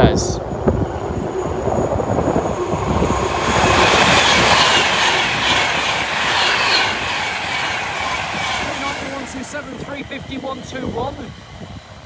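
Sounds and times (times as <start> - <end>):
train high whines: 0.0 - 12.0
wheels rushing on rail: 0.4 - 12.0.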